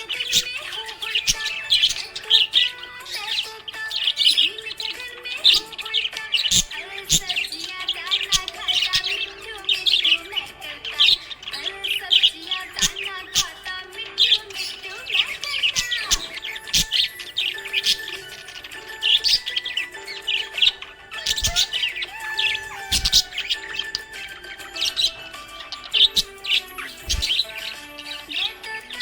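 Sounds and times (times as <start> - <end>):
budgerigars chirping: 0.0 - 29.0.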